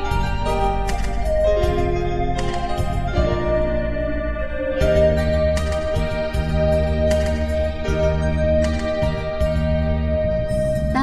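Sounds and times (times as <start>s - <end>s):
slow instrumental pop music: 0.0s - 11.0s.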